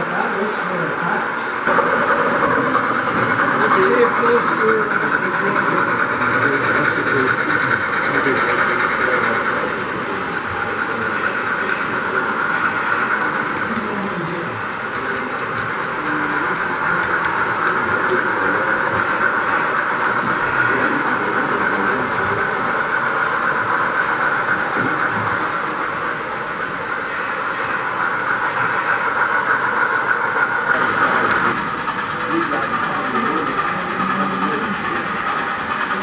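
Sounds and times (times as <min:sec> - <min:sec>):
model train rumbling on track: 0:00.0 - 0:36.0.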